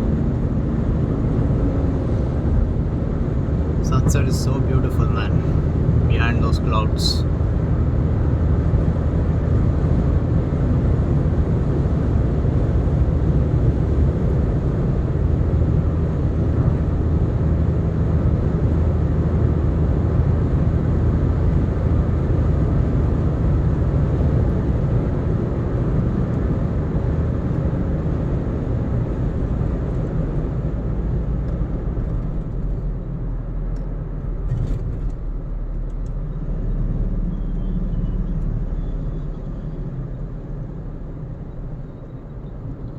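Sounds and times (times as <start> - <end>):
car cabin road and engine rumble: 0.0 - 42.9.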